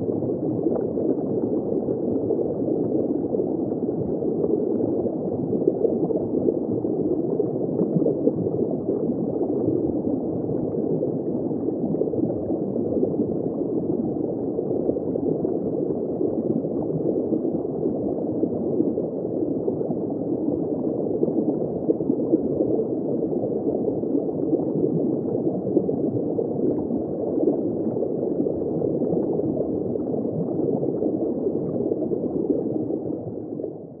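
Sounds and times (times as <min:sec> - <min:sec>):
underwater bubbling and churning: 0:00.0 - 0:34.0.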